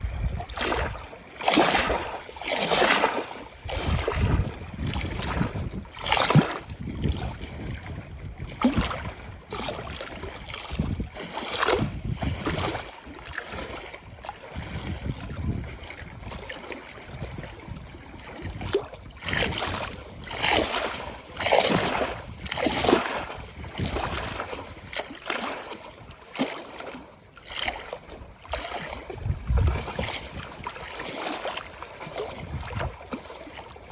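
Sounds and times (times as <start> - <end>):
wind rumble on microphone: 0.0 - 2.2, 2.9 - 25.1, 27.6 - 33.9
waves lapping and splashing: 0.0 - 33.9.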